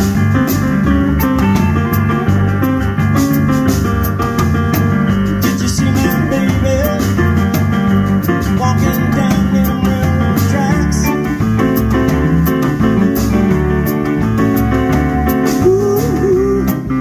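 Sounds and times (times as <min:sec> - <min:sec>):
electric upright bass: 0:00.0 - 0:17.0
stage keyboard: 0:00.0 - 0:17.0
steady drum beat: 0:00.0 - 0:17.0.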